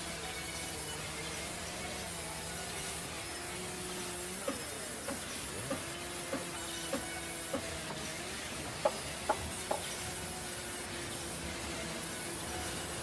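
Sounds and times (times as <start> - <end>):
band saw cutting timber: 0.0 - 13.0.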